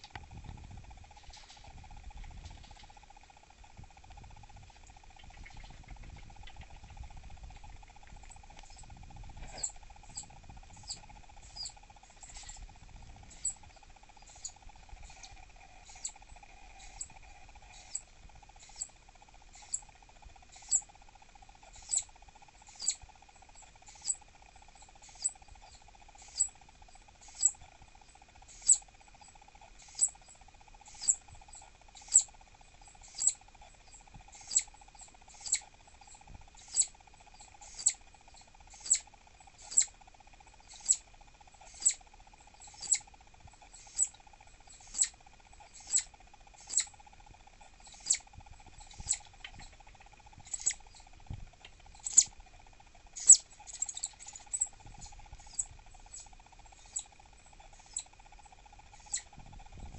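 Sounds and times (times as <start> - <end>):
flying squirrel chirping: 4.4 - 59.9.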